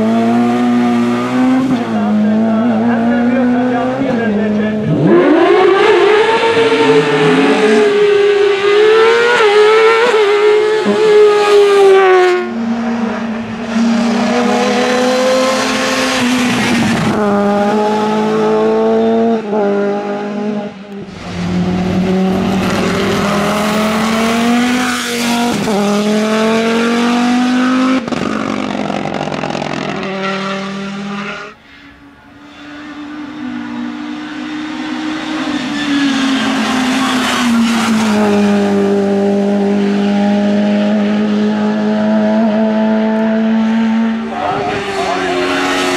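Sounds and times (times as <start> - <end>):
race car engines revving: 0.0 - 45.9.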